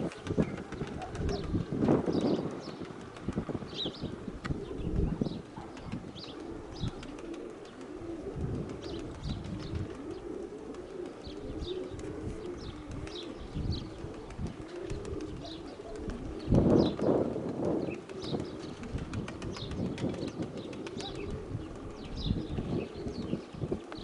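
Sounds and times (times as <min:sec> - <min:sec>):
small birds chirping: 0:00.0 - 0:08.0, 0:08.8 - 0:17.2, 0:17.8 - 0:24.0
pigeons cooing: 0:00.0 - 0:24.0.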